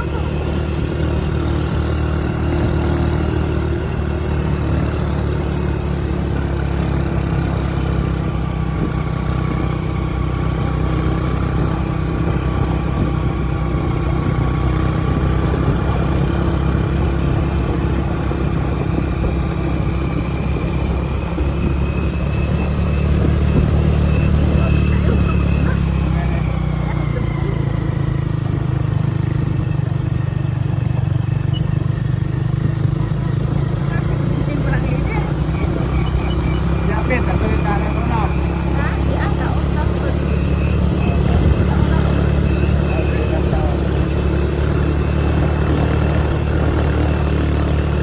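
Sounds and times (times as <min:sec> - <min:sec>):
motorcycle engines cruising: 0:00.0 - 0:48.0
wind and road noise: 0:00.0 - 0:48.0.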